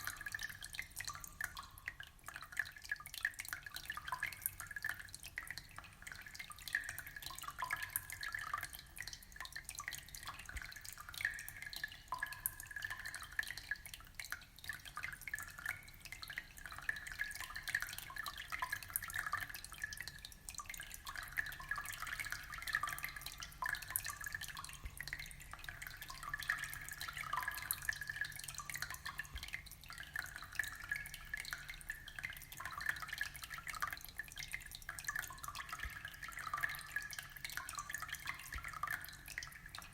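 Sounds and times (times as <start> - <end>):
aquarium water trickling and splashing: 0.0 - 39.9.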